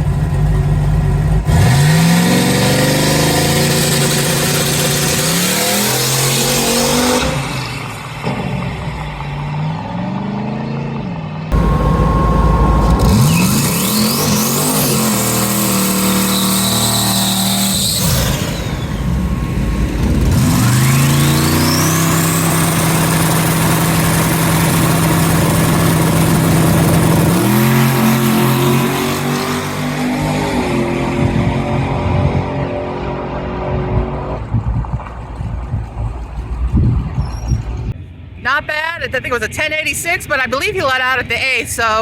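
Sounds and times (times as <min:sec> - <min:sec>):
race car accelerating hard: 0:00.0 - 0:36.1.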